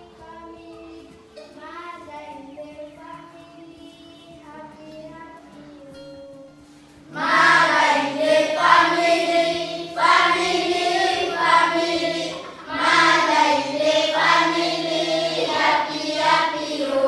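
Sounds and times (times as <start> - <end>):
children singing together: 0.0 - 17.0.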